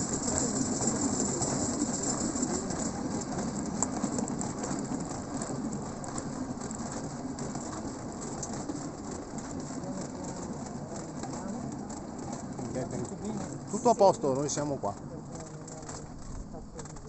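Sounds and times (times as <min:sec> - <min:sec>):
wheels rattling on rails: 0:00.0 - 0:17.0.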